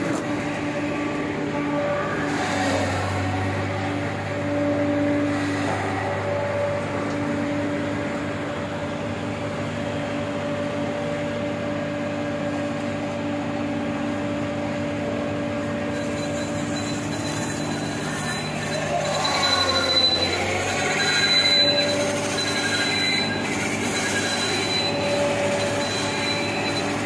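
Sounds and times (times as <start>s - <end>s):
baling machine humming: 0.0s - 27.0s.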